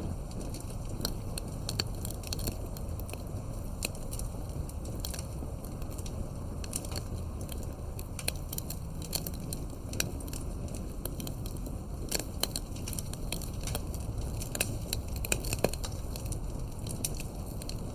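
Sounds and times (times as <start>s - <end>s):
burning wood popping and crackling: 0.0s - 17.9s
low rumble of flames: 0.0s - 17.9s.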